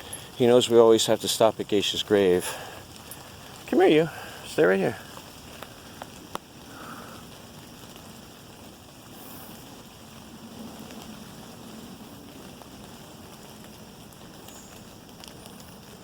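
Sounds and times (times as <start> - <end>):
low hiss of air: 0.0 - 15.5.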